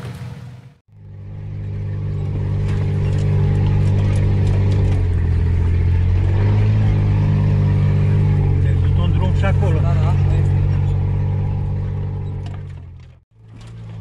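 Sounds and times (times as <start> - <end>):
engine running under load: 0.0 - 14.0.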